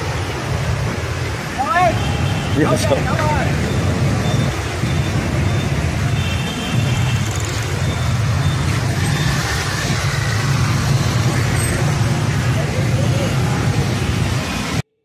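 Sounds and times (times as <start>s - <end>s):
motorbike and car engines passing: 0.0s - 14.8s.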